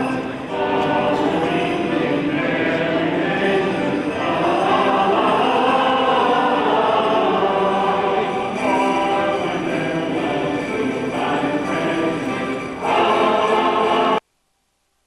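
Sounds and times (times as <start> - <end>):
choir singing: 0.0 - 14.2.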